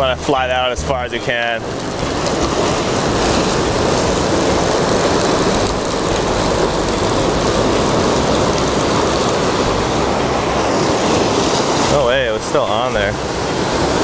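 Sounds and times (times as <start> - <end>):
surf washing against rocks: 0.0 - 14.0.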